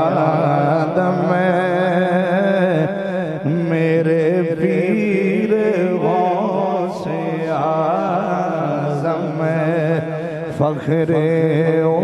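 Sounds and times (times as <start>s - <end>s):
man chanting devotional refrain: 0.0s - 12.0s.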